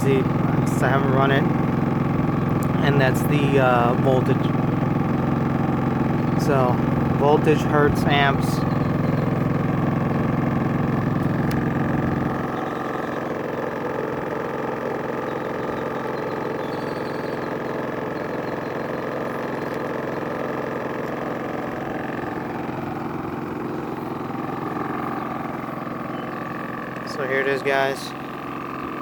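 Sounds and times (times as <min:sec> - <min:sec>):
generator engine running: 0:00.0 - 0:29.0.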